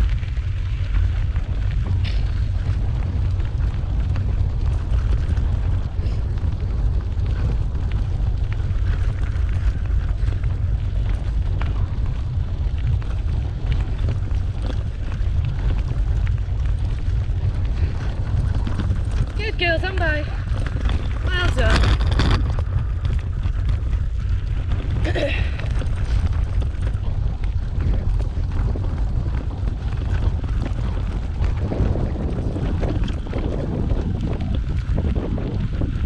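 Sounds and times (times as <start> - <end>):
wheels crunching on gravel: 0.0 - 36.0
wind buffeting microphone: 0.0 - 36.0.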